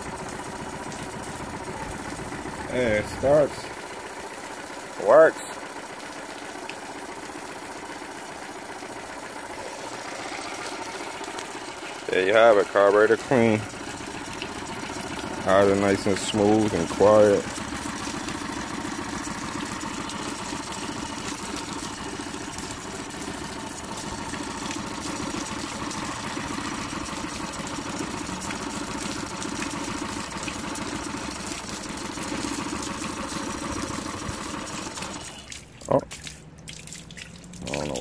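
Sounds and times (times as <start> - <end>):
outboard engine idling: 0.0 - 38.0.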